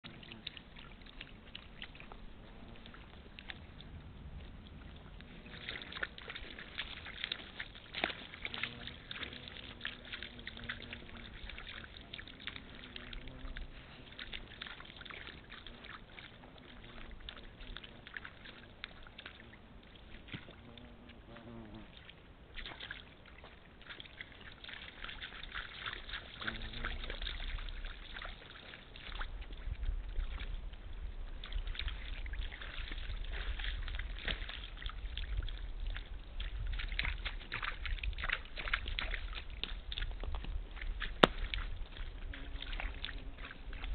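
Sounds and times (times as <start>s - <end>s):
deer lapping and slurping water: 0.0s - 43.9s
hooves squelching in mud: 0.0s - 43.9s.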